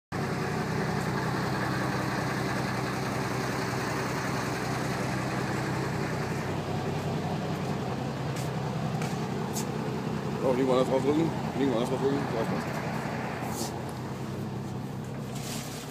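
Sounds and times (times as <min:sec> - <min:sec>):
bus diesel engine idling: 0:00.1 - 0:15.9.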